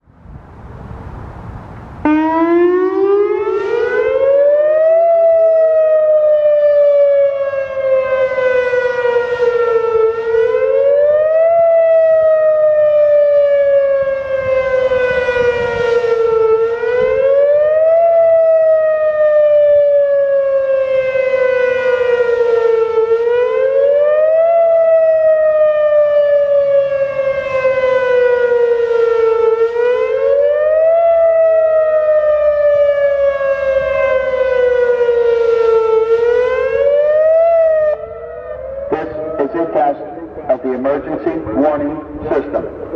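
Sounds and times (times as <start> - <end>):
warning siren wailing: 2.0 - 42.9.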